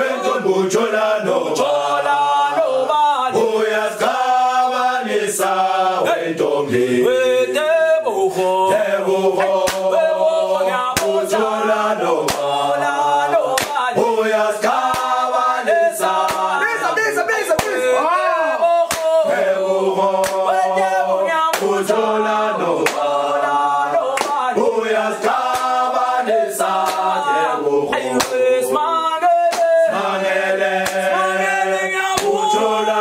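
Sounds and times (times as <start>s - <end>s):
group of voices singing a cappella: 0.0s - 33.0s.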